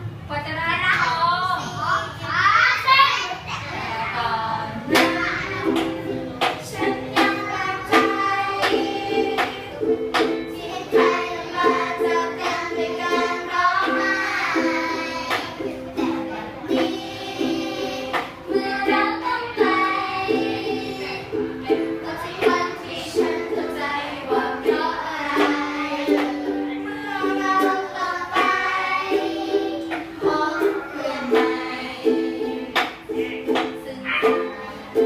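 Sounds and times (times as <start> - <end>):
people singing: 3.8 - 35.0
ukulele strumming: 4.8 - 35.0.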